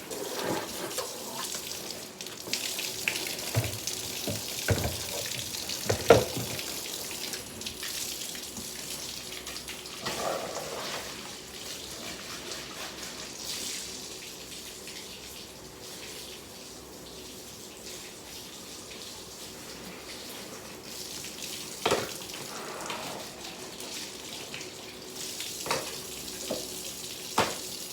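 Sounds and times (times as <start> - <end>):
water running from a tap: 0.0 - 27.9.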